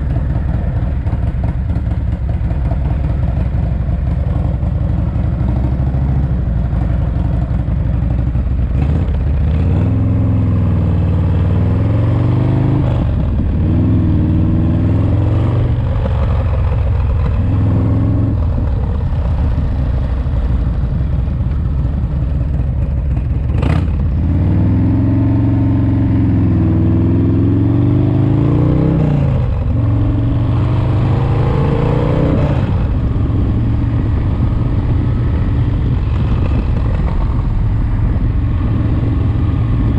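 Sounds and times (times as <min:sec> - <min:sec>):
motorcycle engine revving on road: 0:00.0 - 0:39.9.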